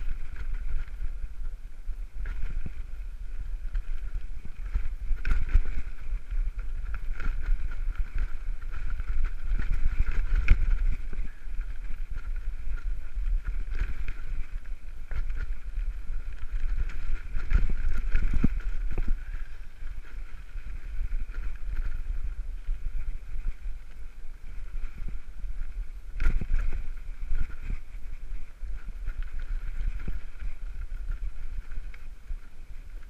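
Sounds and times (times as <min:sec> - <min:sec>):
bike rattling on gravel: 0:00.0 - 0:33.0
wind buffeting microphone: 0:00.0 - 0:33.0.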